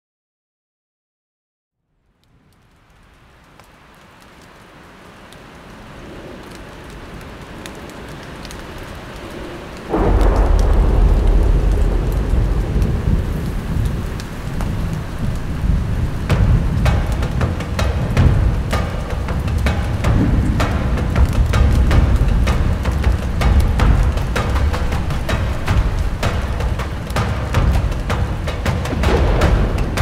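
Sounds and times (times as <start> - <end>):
rain: 1.8 - 30.0
thunder clap and rumble: 5.8 - 30.0.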